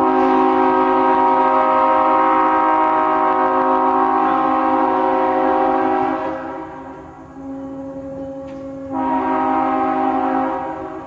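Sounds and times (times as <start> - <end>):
railroad air horn chord: 0.0 - 11.0.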